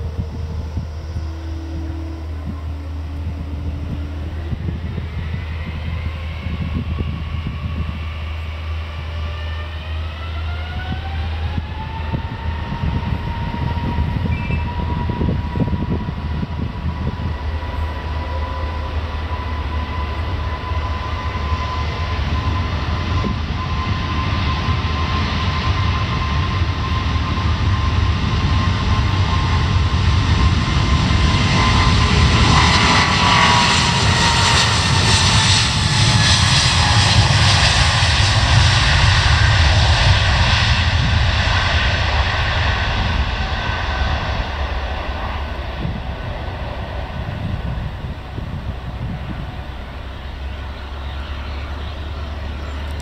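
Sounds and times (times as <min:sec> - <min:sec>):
jet engines whining and rumbling: 0:00.0 - 0:53.0.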